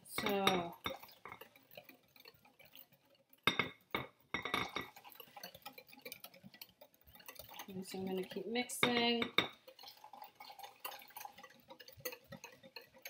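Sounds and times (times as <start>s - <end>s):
whisk clinking against glass bowl: 0.1s - 13.0s.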